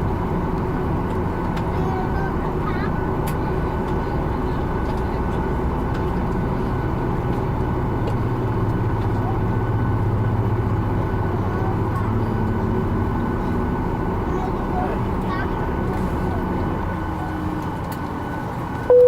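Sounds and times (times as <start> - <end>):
aircraft cabin engine drone: 0.0 - 19.0
passenger chatter: 0.0 - 19.0.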